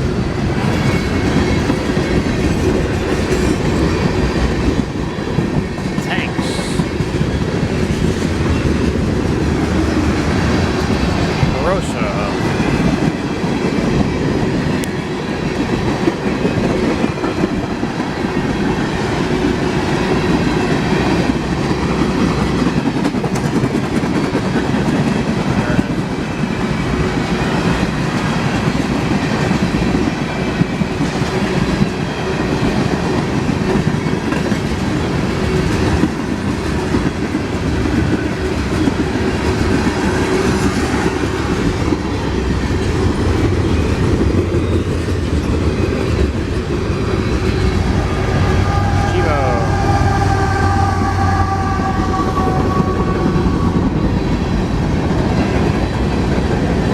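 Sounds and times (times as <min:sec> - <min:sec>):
train wheels clattering on rails: 0:00.0 - 0:49.1, 0:49.7 - 0:56.9.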